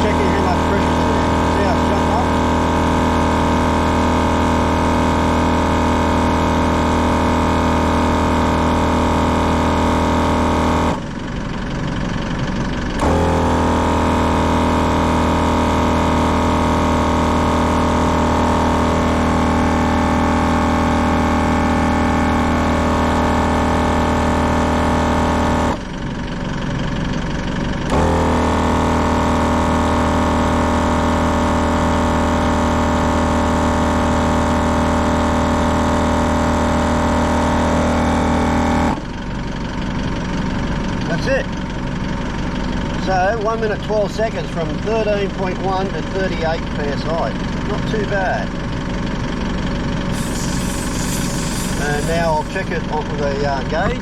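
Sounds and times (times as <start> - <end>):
car engine idling: 0.0 - 33.2, 39.0 - 54.0
air compressor running: 0.0 - 54.0.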